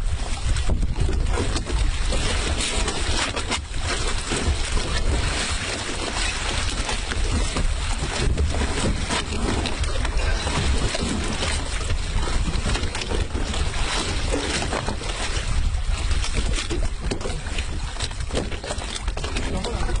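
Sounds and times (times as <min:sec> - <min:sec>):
water noise: 0:00.0 - 0:20.0
wind buffeting microphone: 0:00.0 - 0:20.0.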